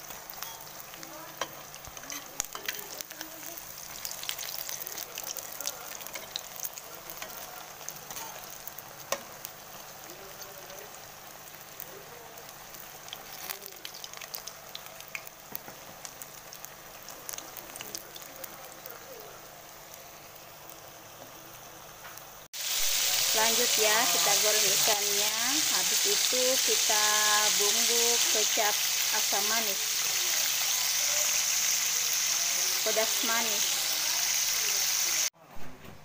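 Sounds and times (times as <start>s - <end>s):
deep-frying sizzle and crackles: 0.0s - 35.4s.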